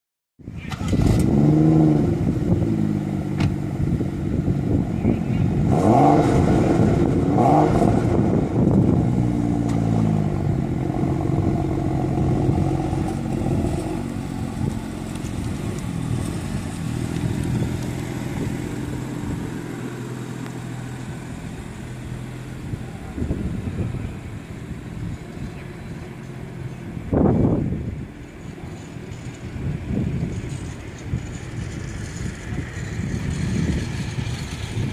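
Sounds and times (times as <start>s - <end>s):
car engine revving and idling: 0.5s - 34.9s.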